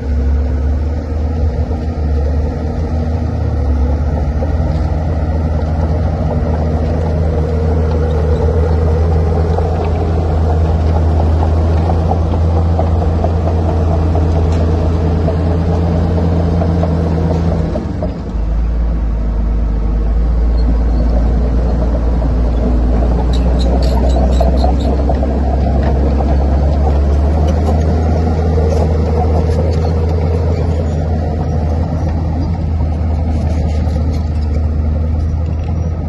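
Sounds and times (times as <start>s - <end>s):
bulldozer diesel engine running: 0.0s - 36.0s.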